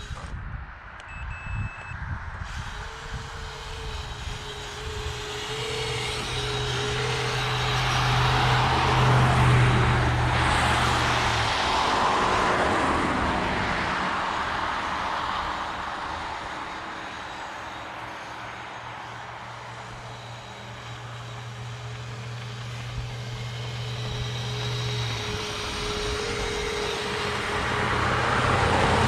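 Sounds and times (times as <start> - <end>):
toy snowcat motors: 0.0 - 0.4, 2.4 - 29.0.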